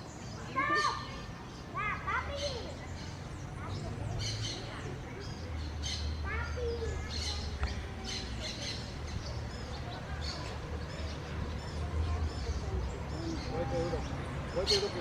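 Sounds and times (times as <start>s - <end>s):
songbirds chirping and twittering: 0.0s - 15.0s.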